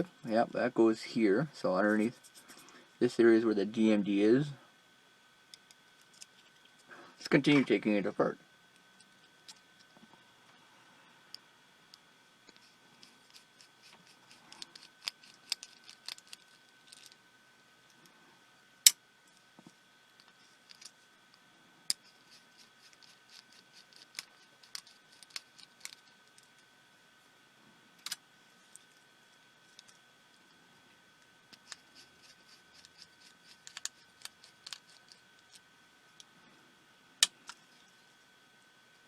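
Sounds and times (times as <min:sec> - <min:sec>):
faint high whine: 0:00.0 - 0:39.0.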